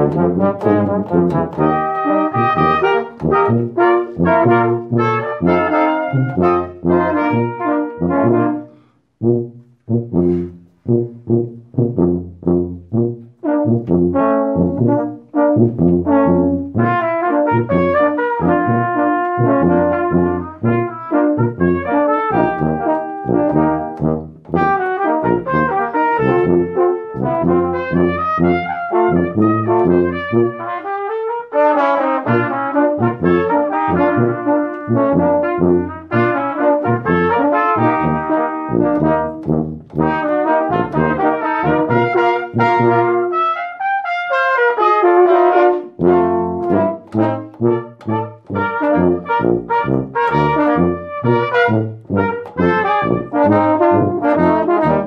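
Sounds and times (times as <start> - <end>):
low brass bass part: 0.0 - 43.7, 44.6 - 55.0
trumpets and trombones: 0.0 - 55.0.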